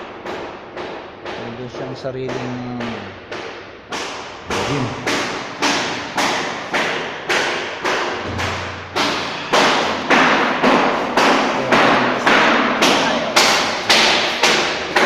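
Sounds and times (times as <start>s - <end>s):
heavy hammer blows ringing: 0.0s - 15.0s.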